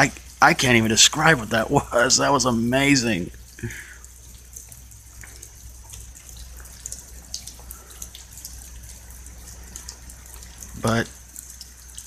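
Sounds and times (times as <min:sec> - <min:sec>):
drops ticking: 0:00.0 - 0:12.0
low steady hum: 0:00.0 - 0:12.0
rain dripping and trickling: 0:00.0 - 0:12.0.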